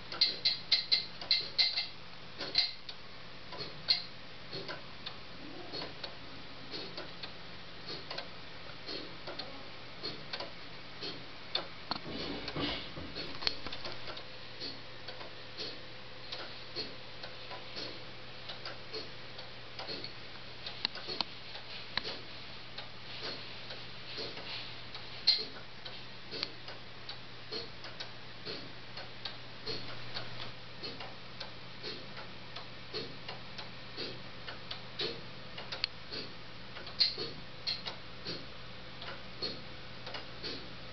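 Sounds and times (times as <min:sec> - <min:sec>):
pendulum clock ticking: 0:00.0 - 0:12.0, 0:13.1 - 0:40.9.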